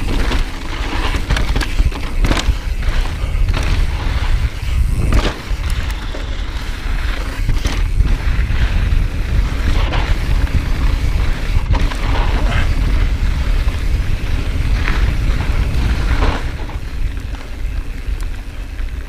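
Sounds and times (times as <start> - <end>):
bike rattling over bumps: 0.0 - 19.0
bike tyres rolling on dirt: 0.0 - 19.0
wind buffeting microphone: 0.0 - 19.0.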